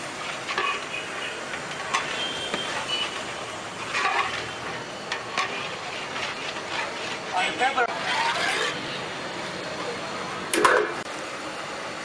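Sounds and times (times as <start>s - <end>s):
masala sizzling in a pot: 0.0s - 12.0s.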